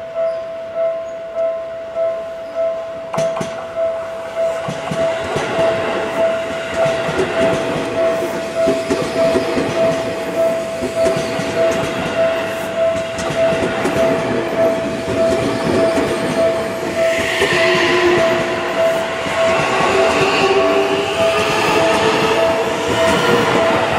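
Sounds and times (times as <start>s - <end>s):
train wheels clattering on rails: 3.1s - 3.8s, 4.4s - 23.9s
steady pulsing tone: 3.8s - 23.9s.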